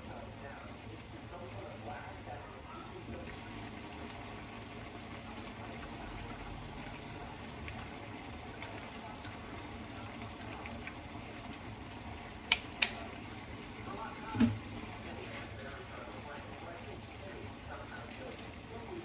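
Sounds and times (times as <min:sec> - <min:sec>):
running water in kitchen: 0:00.0 - 0:19.0.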